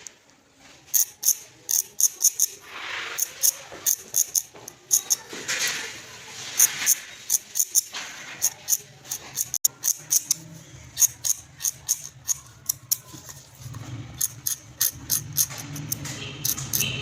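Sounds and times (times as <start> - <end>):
sharp mechanical clicks: 0.9 - 2.6, 3.2 - 5.3, 6.6 - 17.0.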